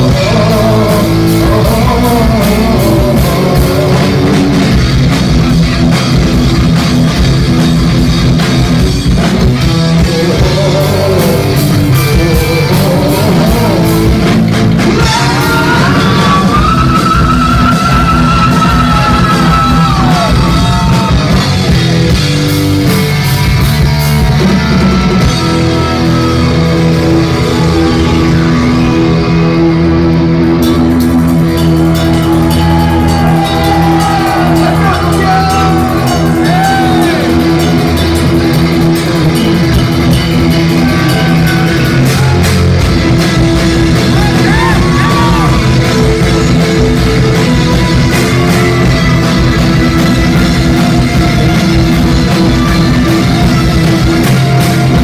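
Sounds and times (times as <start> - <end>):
heavy metal band playing: 0.0 - 55.0.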